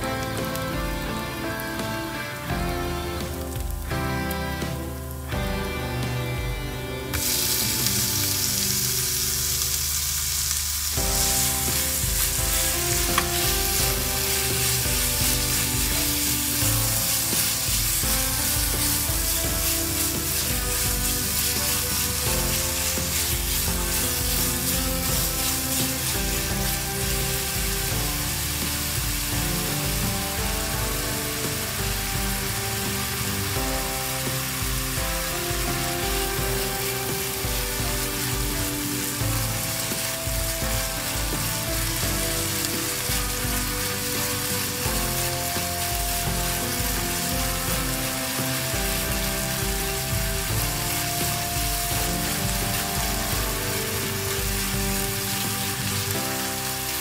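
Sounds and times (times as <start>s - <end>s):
soft background music: 0.0s - 57.0s
meat sizzling in oil: 7.1s - 57.0s.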